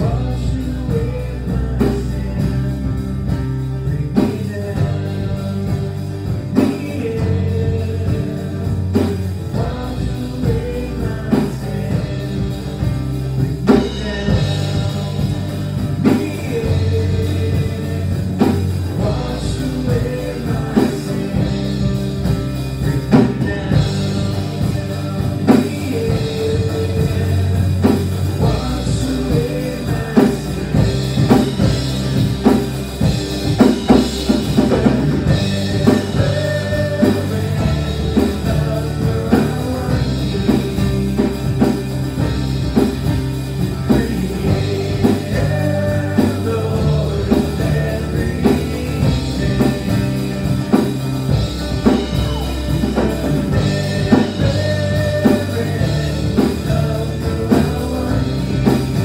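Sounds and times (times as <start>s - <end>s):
acoustic guitar: 0.0s - 59.0s
drum kit beat: 0.0s - 59.0s
man singing: 0.0s - 59.0s.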